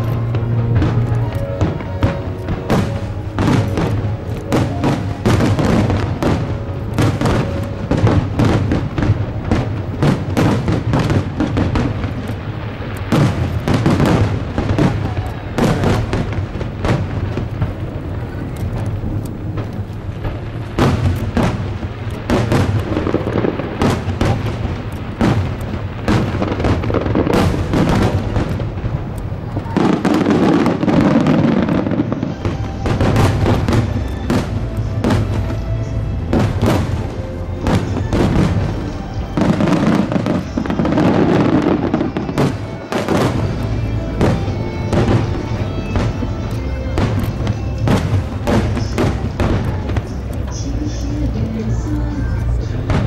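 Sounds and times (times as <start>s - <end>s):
fireworks bursting: 0.0s - 53.0s
music: 0.0s - 53.0s.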